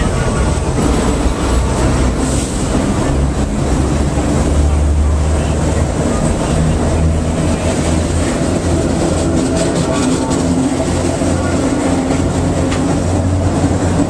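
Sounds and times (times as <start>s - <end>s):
subway car rumbling: 0.0s - 14.0s.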